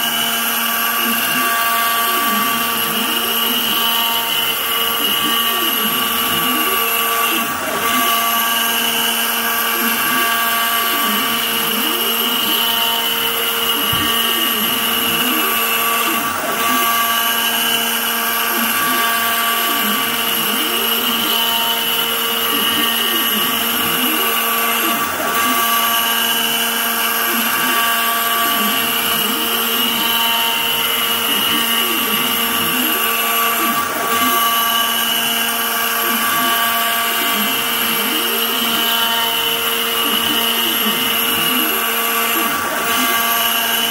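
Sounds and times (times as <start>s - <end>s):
router spindle high whine: 0.0s - 43.9s.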